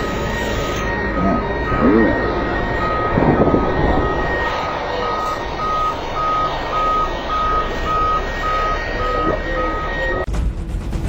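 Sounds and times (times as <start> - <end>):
reversing alarm beeping: 0.0 - 10.3
steady rumble: 0.0 - 11.0.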